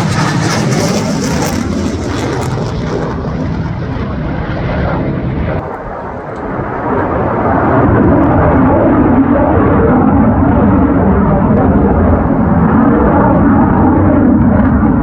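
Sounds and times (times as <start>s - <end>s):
jet engine roar passing overhead: 0.0s - 15.0s.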